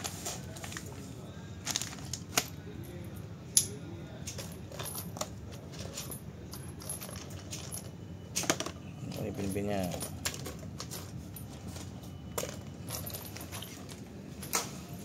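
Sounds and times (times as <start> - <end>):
small metal parts clinking: 1.6 - 15.0.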